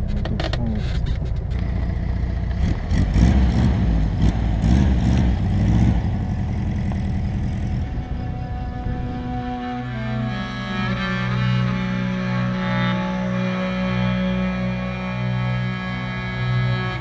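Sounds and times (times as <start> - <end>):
car engine revving: 0.9 - 17.0.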